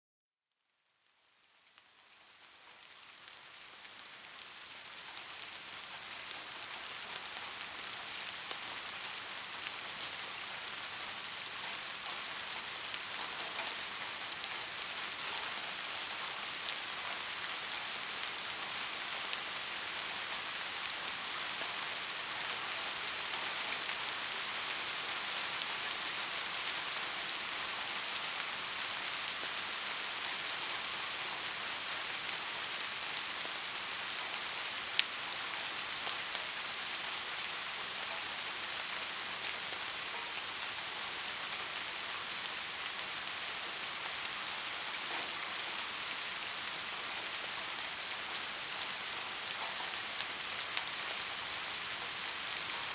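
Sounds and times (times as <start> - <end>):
steady rain falling: 0.6 - 52.9.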